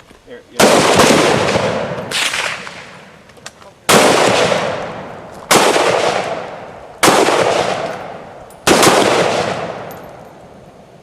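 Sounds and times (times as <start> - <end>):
echoing gunshots: 0.6 - 3.3, 3.9 - 10.6.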